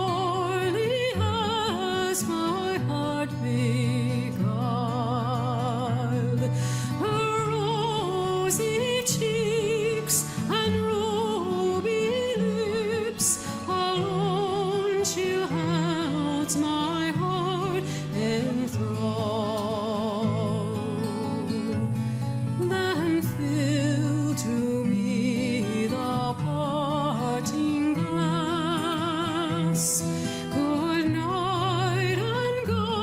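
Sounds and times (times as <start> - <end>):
singer with wide vibrato: 0.0 - 33.0.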